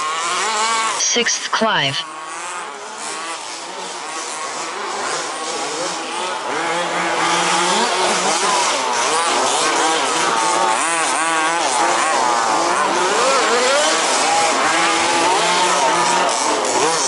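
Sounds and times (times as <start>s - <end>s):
small two-stroke engines revving: 0.0s - 1.0s, 2.0s - 17.0s.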